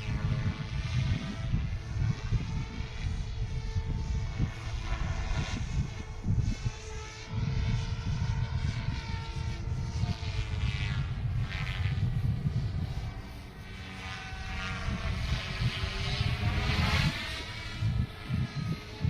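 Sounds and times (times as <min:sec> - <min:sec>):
rc helicopter rotor whine: 0:00.0 - 0:19.0
wind buffeting microphone: 0:00.0 - 0:19.0.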